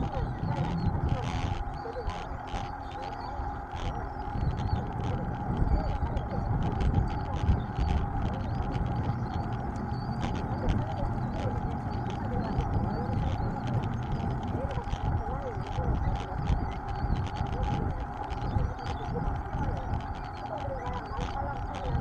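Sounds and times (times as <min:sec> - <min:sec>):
mountain bike rumble: 0:00.0 - 0:22.0.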